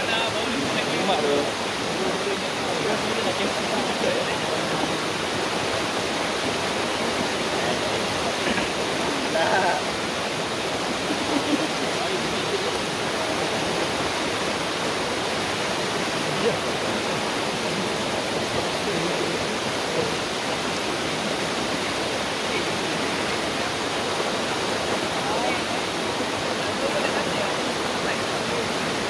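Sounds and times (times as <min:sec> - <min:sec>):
water rushing over rock: 0:00.0 - 0:29.0.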